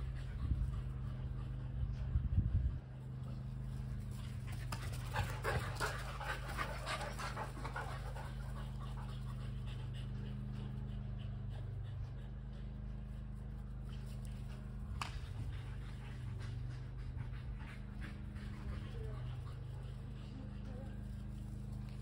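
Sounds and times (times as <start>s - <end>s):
dog panting: 0.0s - 22.0s
low steady hum: 0.0s - 22.0s.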